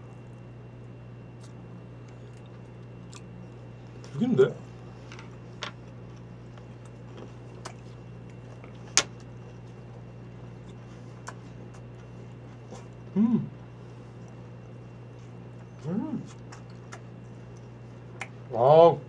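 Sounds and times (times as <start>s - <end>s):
quiet chewing: 0.0s - 18.5s
steady low hum: 0.0s - 19.0s.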